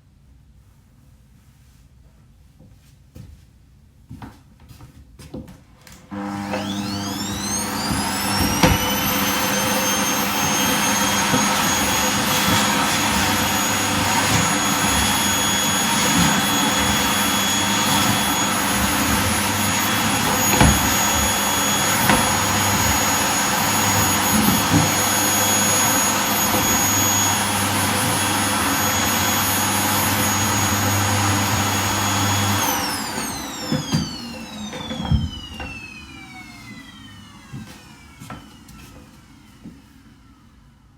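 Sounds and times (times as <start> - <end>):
vacuum cleaner motor whine: 5.9 - 40.9.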